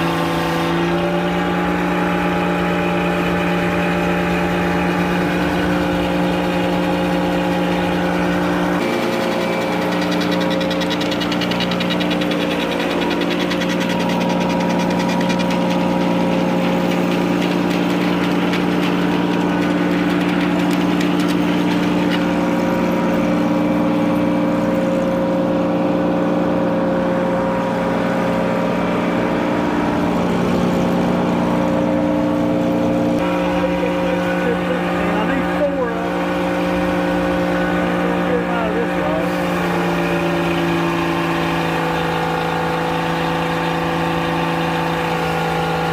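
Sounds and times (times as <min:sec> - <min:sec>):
circular sawmill engine drone: 0:00.0 - 0:45.9.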